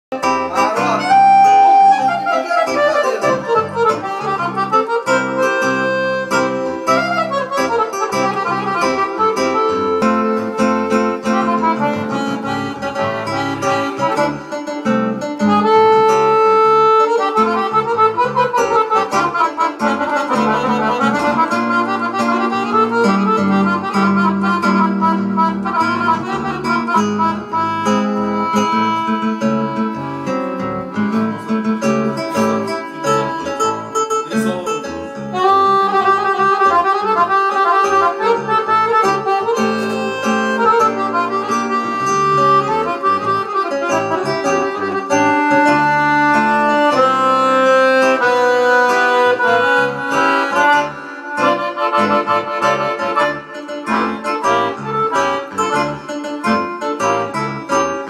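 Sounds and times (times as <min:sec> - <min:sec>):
accordion playing lively tune: 0:00.1 - 0:58.0.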